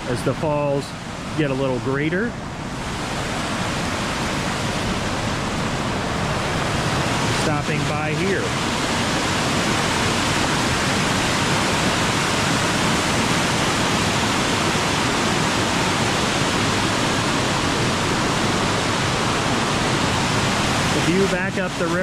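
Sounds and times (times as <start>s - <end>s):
waterfall and rapids rushing: 0.0s - 22.0s.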